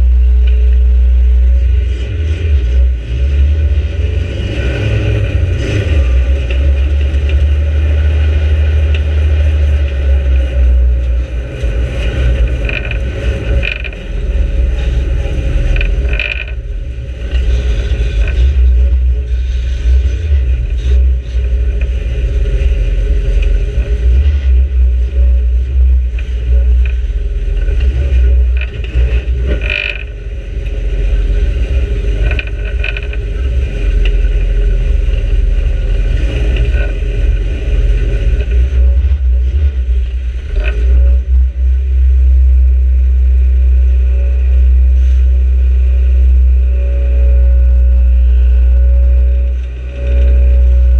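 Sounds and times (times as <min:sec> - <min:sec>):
car engine rumbling: 0:00.0 - 0:50.9.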